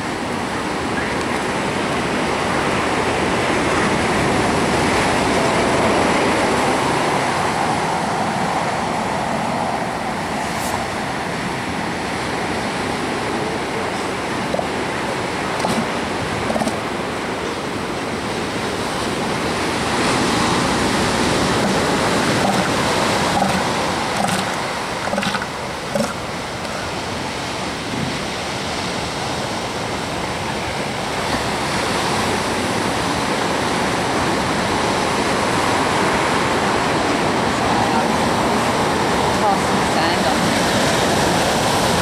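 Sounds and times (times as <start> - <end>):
ocean surf breaking: 0.0 - 42.0.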